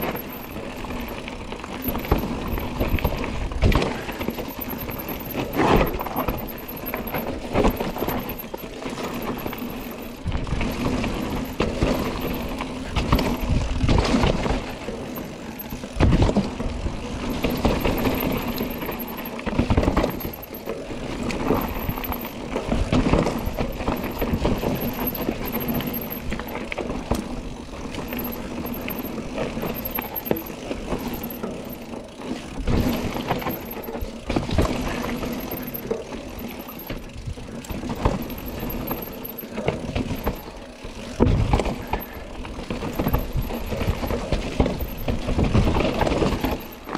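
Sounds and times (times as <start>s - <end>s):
bike knocks and rattles: 0.0s - 46.9s
bike tyres rolling: 0.0s - 46.9s.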